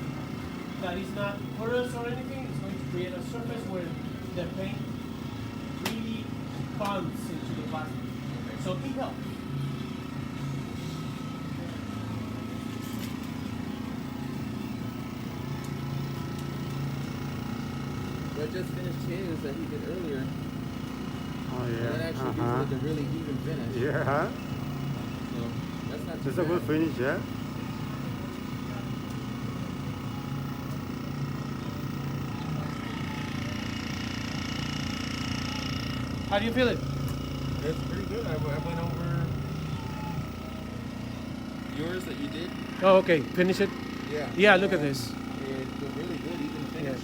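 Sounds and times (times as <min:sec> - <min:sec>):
air compressor running: 0:00.0 - 0:47.0.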